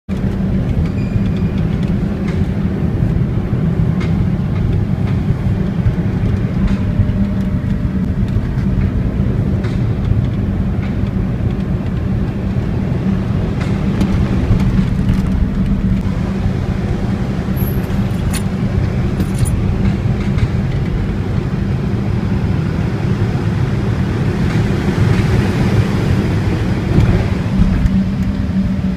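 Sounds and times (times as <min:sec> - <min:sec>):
car road noise drone: 0:00.1 - 0:28.9.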